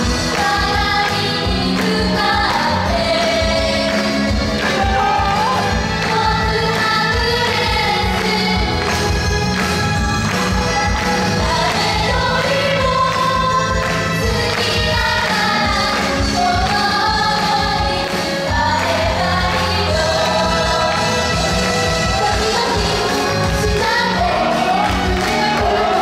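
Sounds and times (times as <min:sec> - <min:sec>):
women singing together: 0:00.0 - 0:09.1, 0:10.6 - 0:26.0.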